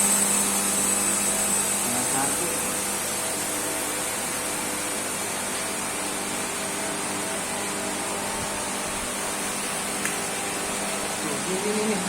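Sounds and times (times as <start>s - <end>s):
vacuum pump humming with hiss: 0.0s - 12.0s.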